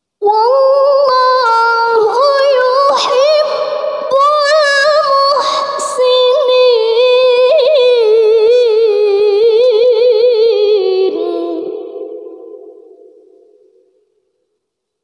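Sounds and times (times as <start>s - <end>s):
woman chanting: 0.2s - 13.4s.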